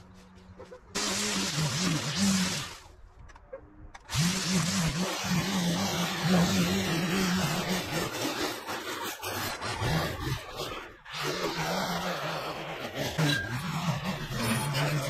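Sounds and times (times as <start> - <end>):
line trimmer cutting grass: 0.9 - 2.9, 4.0 - 15.0.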